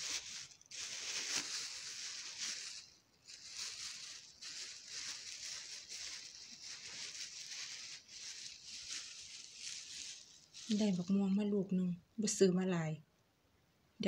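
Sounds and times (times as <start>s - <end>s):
plastic bags crinkling: 0.0s - 11.4s.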